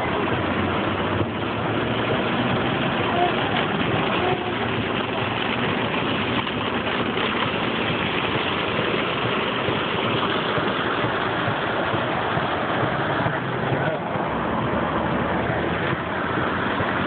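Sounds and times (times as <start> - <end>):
car engine running: 0.0 - 17.0
rain on car body: 0.0 - 17.0
tyres on wet road: 0.0 - 17.0.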